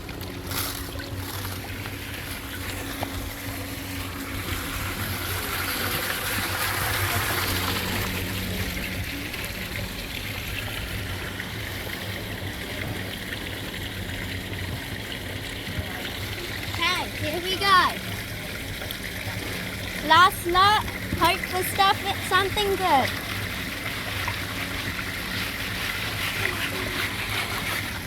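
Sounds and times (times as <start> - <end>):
water running and trickling: 0.0 - 28.0.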